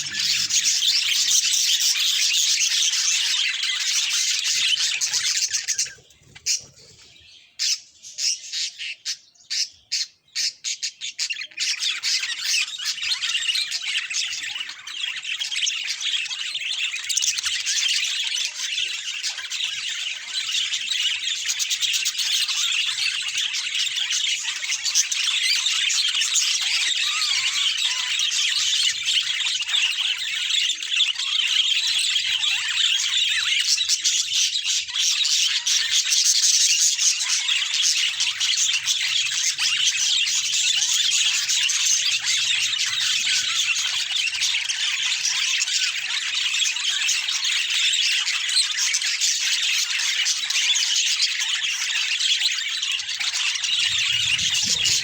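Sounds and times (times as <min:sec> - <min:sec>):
budgerigars chattering and chirping: 0:00.0 - 0:55.0.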